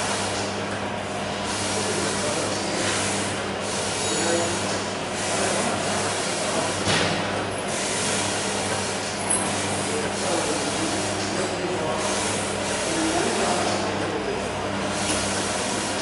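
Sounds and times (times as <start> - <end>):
packing machine motor hum: 0.0 - 16.0.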